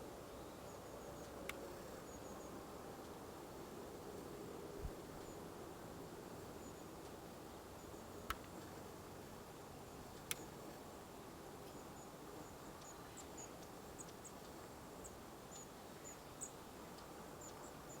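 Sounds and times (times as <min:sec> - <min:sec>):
low outdoor noise: 0:00.0 - 0:18.0.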